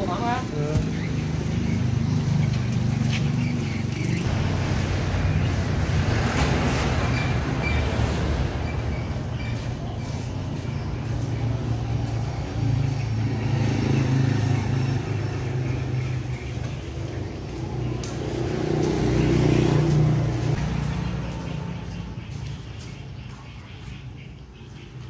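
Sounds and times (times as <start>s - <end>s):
vehicle engine humming: 0.0s - 23.2s.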